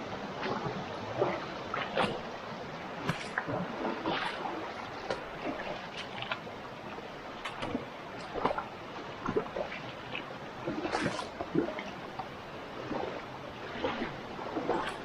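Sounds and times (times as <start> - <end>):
river water trickling: 0.0 - 15.0
water sloshing splashes: 0.2 - 15.0.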